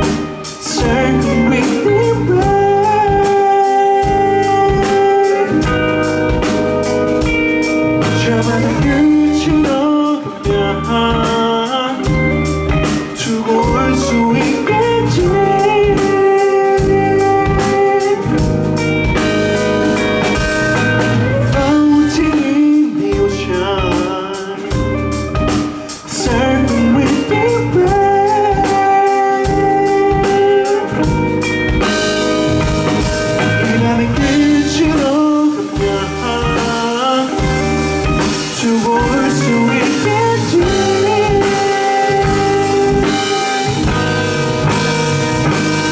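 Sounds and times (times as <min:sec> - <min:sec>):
drum kit beat: 0:00.0 - 0:45.9
electric guitar: 0:00.0 - 0:45.9
person singing: 0:00.0 - 0:45.9.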